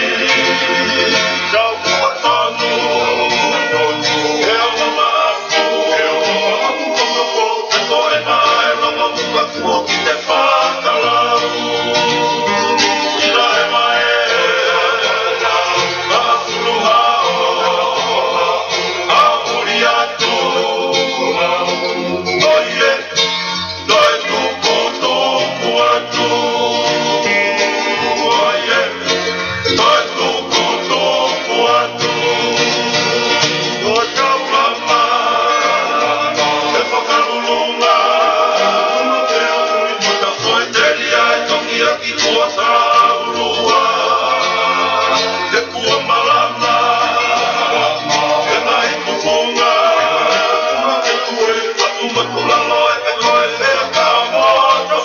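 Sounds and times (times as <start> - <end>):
guitar accompaniment: 0.0 - 55.0
voices singing: 0.0 - 55.0.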